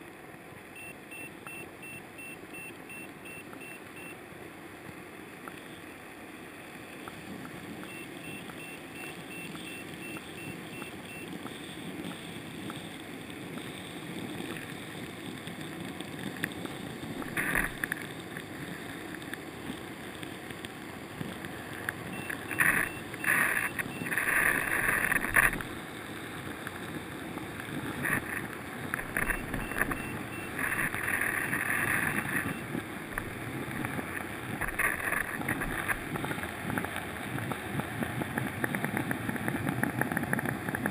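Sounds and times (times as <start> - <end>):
muffled underwater water noise: 0.0 - 40.9
short bursts of noise: 5.5 - 20.4, 21.1 - 40.9.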